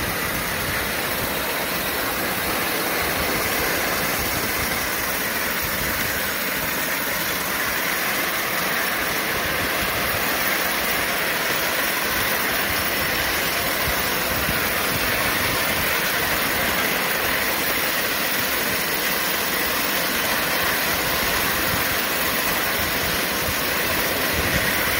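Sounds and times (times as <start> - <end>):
locomotive rolling on track: 0.0 - 24.9
steam locomotive hissing: 0.0 - 24.9.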